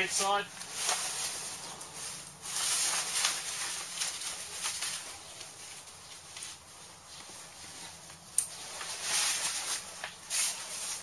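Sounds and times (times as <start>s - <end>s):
canvas and fabric rustling: 0.0s - 11.0s.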